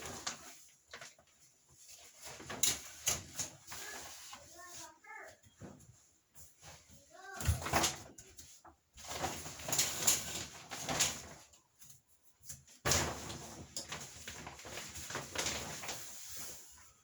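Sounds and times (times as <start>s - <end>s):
shower curtain rustling and scraping: 0.0s - 17.0s.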